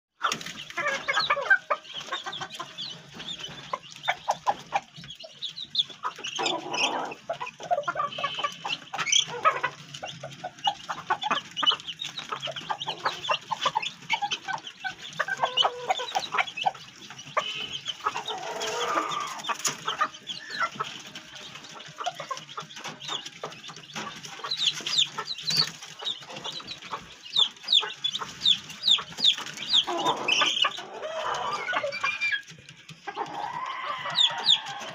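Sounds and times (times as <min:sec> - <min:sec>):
chickens clucking: 0:00.2 - 0:34.9.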